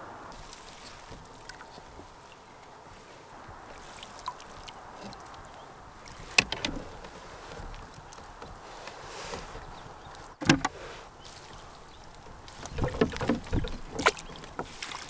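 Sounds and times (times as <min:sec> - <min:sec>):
paddle in water: 0:00.0 - 0:15.0.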